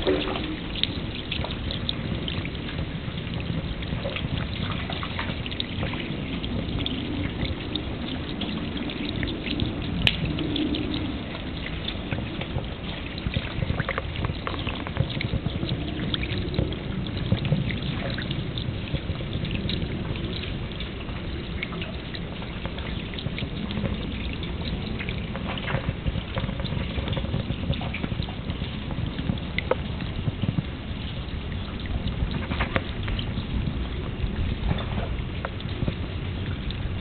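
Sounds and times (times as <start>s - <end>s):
rainwater rushing down downpipe: 0.0s - 37.0s
water dripping and splashing: 0.0s - 37.0s.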